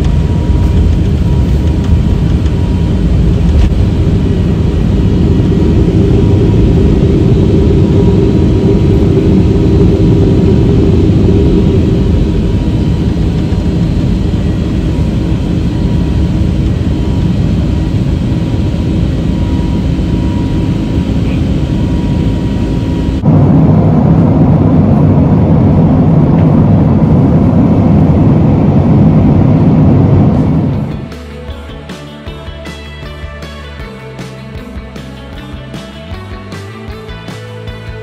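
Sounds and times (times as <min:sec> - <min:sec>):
jet cabin engine drone: 0:00.0 - 0:34.6.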